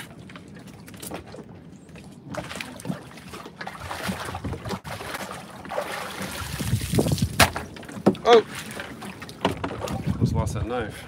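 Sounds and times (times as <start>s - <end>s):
water sloshing against boat hull: 0.0s - 10.9s.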